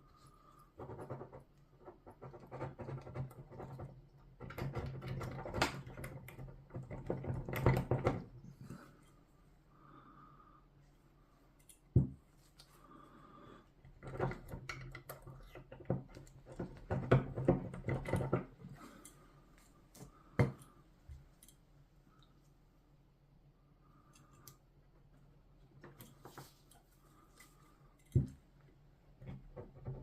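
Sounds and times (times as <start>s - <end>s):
faint steady hum: 5.1s - 30.0s.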